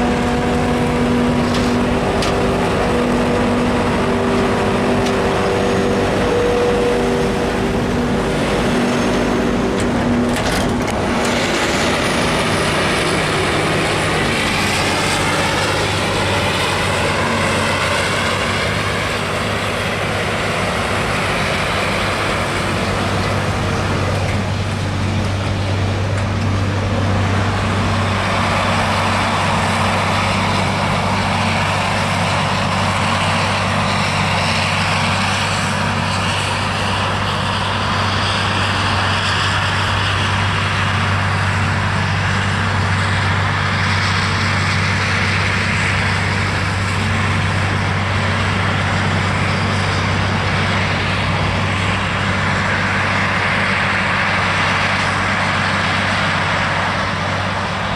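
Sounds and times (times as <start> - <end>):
heavy machinery engine drone: 0.0 - 57.9.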